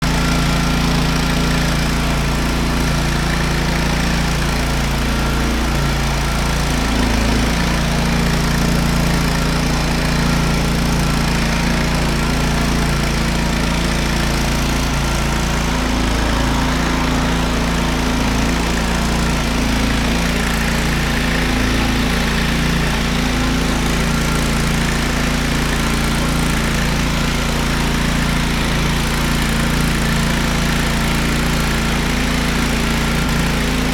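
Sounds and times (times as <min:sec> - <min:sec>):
floor grinder engine running: 0:00.0 - 0:33.9.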